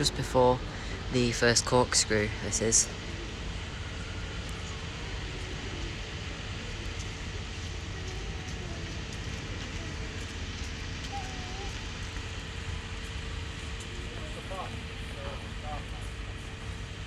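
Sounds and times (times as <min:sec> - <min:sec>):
faint steady hum: 0:00.0 - 0:17.0
low rumble and hiss: 0:00.0 - 0:17.0.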